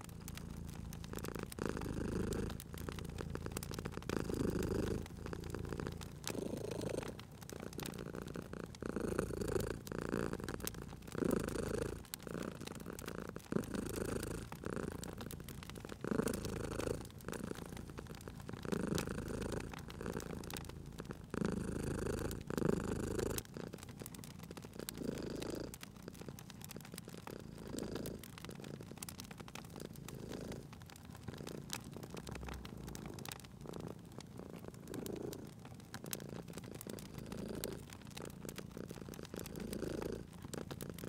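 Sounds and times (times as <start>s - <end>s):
cat purring: 0.0s - 41.0s
wood fire crackling: 0.0s - 41.0s.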